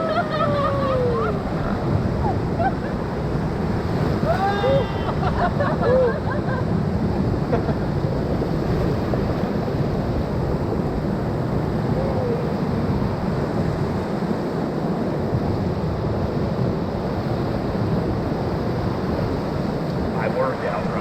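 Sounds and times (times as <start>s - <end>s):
rushing whitewater: 0.0s - 17.0s, 17.8s - 21.0s
wind buffeting microphone: 0.0s - 21.0s.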